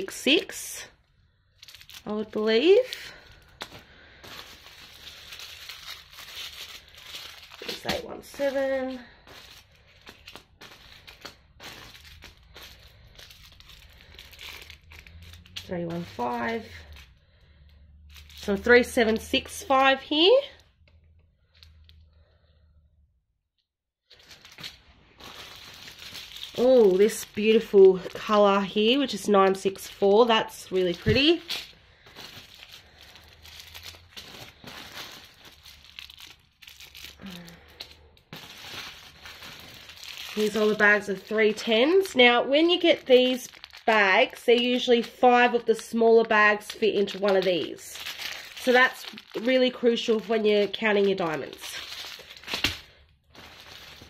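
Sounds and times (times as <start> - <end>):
plastic bags crinkling: 0.0 - 22.4, 24.1 - 54.0.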